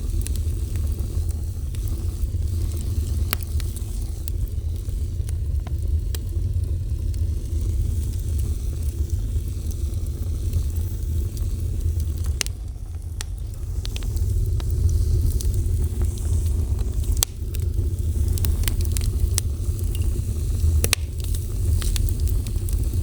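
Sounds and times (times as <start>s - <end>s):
fire crackles and pops: 0.0s - 23.0s
fire rumbling: 0.0s - 23.0s.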